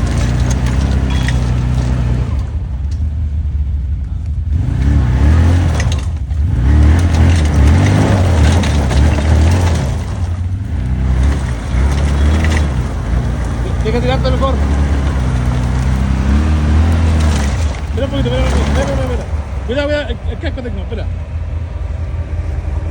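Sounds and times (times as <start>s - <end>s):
vehicle engine revving hard: 0.0s - 2.6s, 4.4s - 22.9s.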